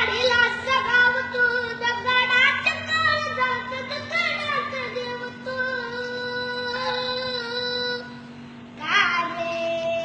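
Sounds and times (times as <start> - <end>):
boy singing a long note: 0.0 - 8.2.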